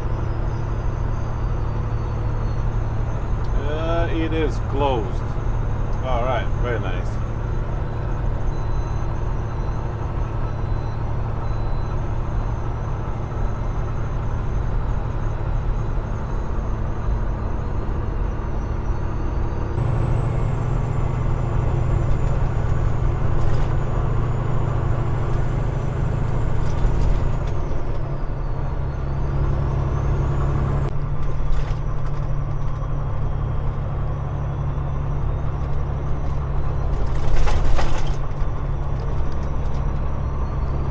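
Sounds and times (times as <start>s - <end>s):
diesel engine low drone: 0.0s - 40.9s.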